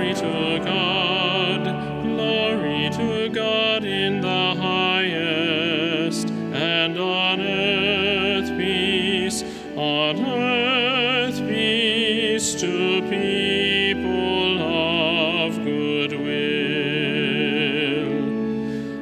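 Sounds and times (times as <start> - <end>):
person singing classical style: 0.0 - 19.0
sustained instrumental accompaniment: 0.0 - 19.0.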